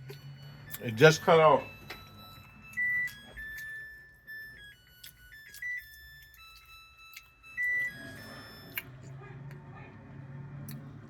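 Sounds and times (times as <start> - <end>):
electronic beep melody: 0.0 - 9.0.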